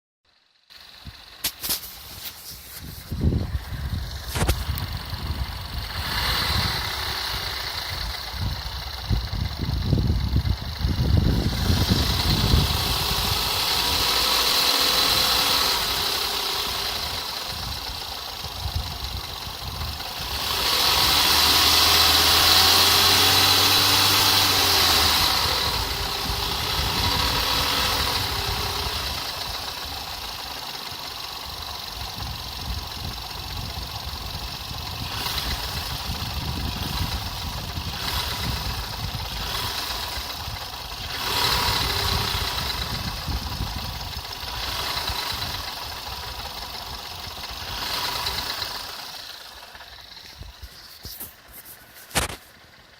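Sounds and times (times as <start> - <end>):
car engine knocking: 0.6 - 52.9.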